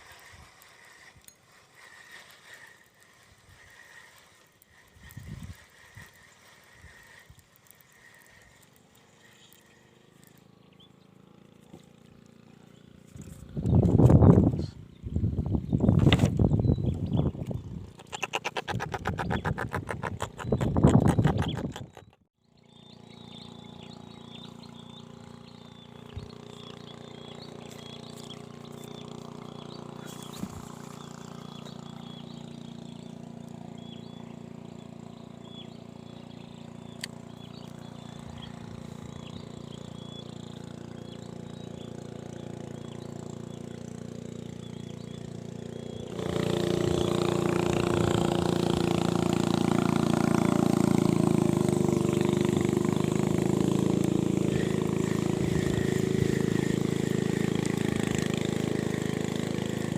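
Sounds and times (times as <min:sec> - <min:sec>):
close engine running: 0:00.0 - 0:59.9
distant engine humming: 0:00.0 - 0:59.9.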